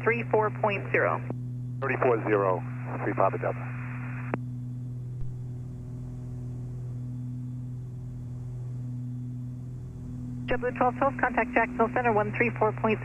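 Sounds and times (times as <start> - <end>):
piston aircraft engines droning: 0.0 - 13.0.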